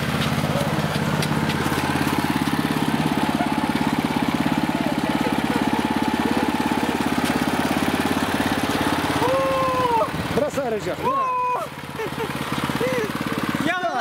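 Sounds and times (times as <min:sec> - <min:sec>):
tiller engine chugging: 0:00.0 - 0:14.0.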